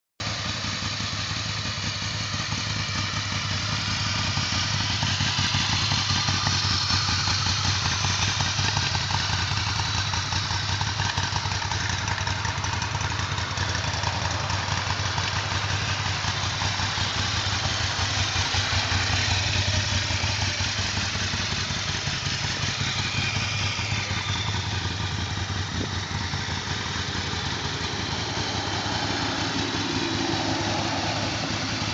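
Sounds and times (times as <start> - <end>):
motorcycle engine idling: 0.2 - 31.9.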